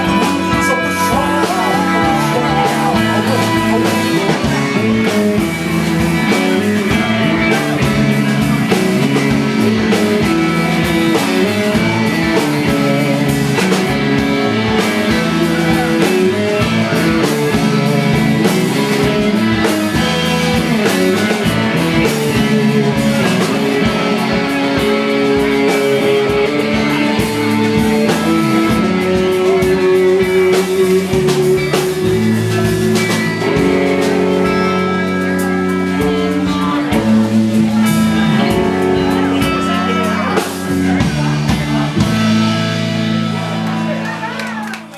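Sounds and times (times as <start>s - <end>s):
rock band with guitar and drums: 0.0s - 44.9s.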